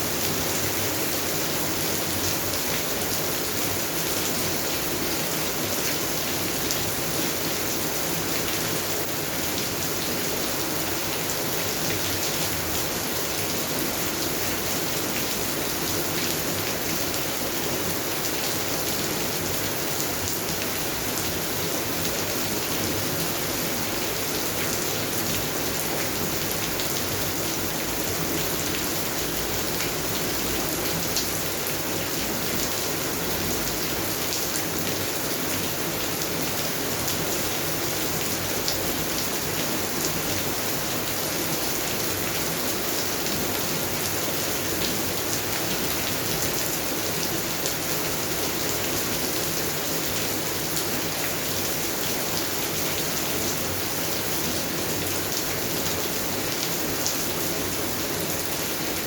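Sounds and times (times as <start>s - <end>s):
rain on plants: 0.1s - 59.0s.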